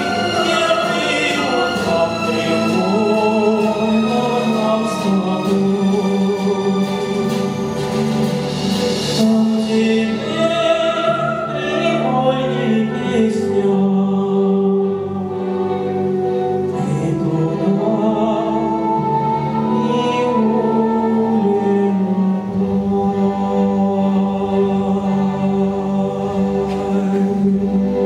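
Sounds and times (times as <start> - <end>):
solo voice singing: 0.0 - 7.4, 9.2 - 28.0
choir singing held chords: 0.0 - 28.0
grand piano: 0.0 - 28.0.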